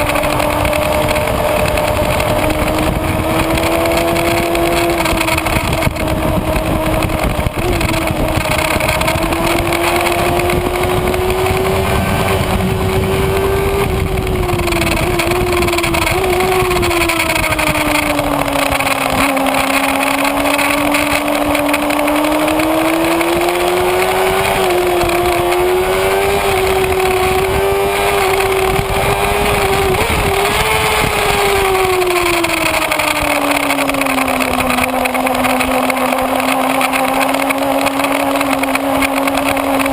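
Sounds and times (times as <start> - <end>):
motorcycle engine revving high: 0.0 - 39.9
wind rush on microphone: 0.0 - 39.9.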